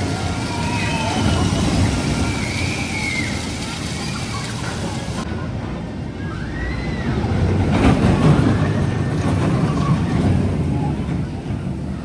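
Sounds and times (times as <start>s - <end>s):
roller coaster train rumbling: 0.0s - 12.0s.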